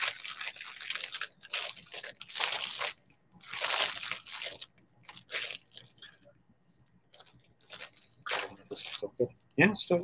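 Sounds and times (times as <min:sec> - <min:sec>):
plastic bag crinkling: 0:00.0 - 0:06.2, 0:07.1 - 0:09.0.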